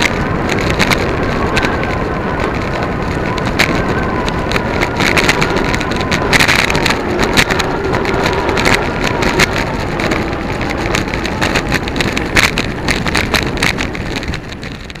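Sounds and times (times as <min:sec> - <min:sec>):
tyres rumbling on road: 0:00.0 - 0:15.0
wind buffeting microphone: 0:00.0 - 0:15.0.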